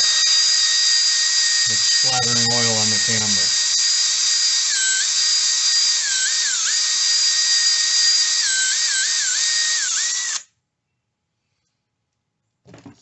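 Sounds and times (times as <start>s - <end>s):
cordless drill whining: 0.0s - 10.5s.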